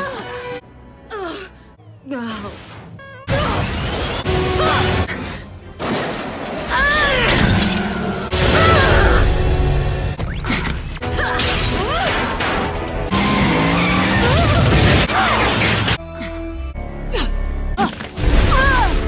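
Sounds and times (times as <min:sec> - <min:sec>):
dramatic music score: 0:00.0 - 0:19.0.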